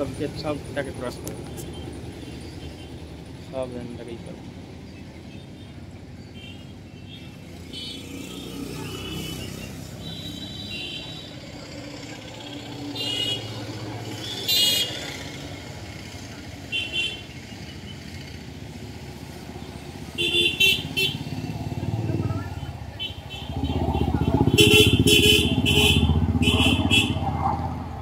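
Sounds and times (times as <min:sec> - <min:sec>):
road traffic hum: 0:00.0 - 0:28.0.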